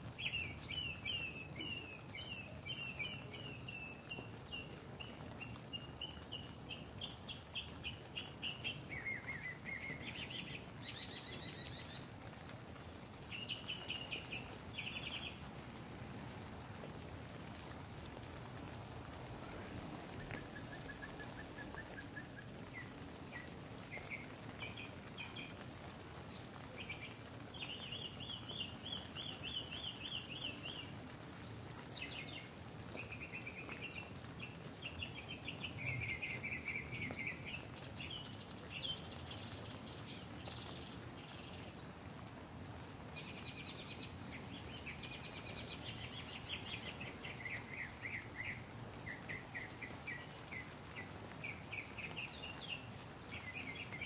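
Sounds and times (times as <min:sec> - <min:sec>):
light rain on a tent: 0:00.0 - 0:54.0
birds singing: 0:00.1 - 0:15.5, 0:19.4 - 0:42.0, 0:43.0 - 0:54.0.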